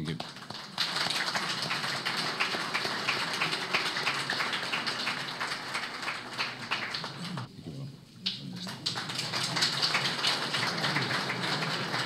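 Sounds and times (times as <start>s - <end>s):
group applause: 0.0s - 7.5s, 8.2s - 12.0s.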